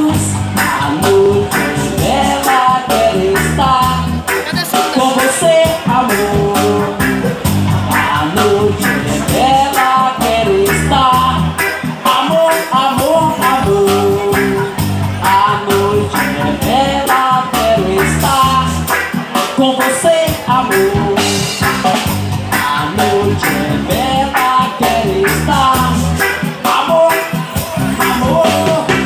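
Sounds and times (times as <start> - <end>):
reggae band playing: 0.0 - 29.0.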